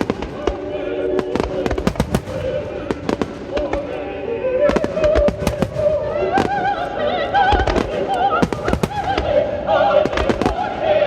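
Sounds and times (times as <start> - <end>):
fireworks bursting: 0.0 - 11.0
operatic singing with music: 0.0 - 11.0.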